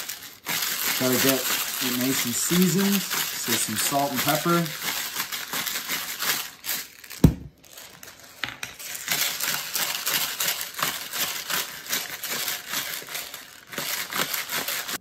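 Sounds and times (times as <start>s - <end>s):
spice grinder grinding: 0.0s - 7.2s, 7.8s - 15.0s.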